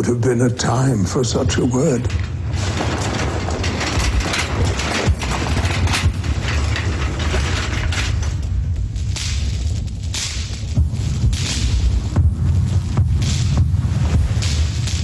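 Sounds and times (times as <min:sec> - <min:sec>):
rattling clattering hiss: 0:01.2 - 0:15.0
low mechanical rumble: 0:01.8 - 0:15.0.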